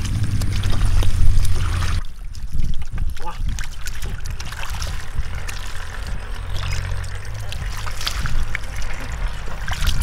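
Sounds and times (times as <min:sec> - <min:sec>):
drips: 0:00.0 - 0:10.0
hands splashing in muddy water: 0:00.0 - 0:10.0
steady low rumble: 0:00.0 - 0:10.0.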